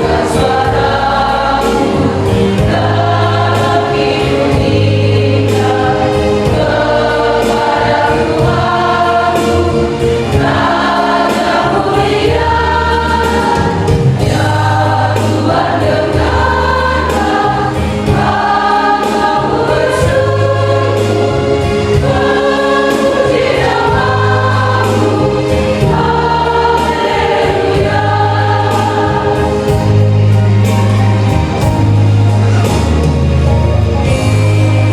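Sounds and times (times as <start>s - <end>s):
church choir singing: 0.0s - 34.9s
instrumental backing with beat: 0.0s - 34.9s.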